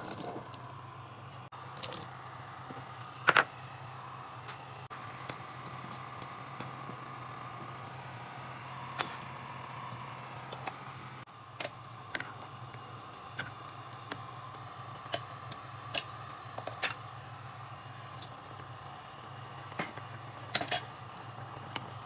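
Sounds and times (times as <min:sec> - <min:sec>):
water boiling and bubbling: 0:00.0 - 0:22.0.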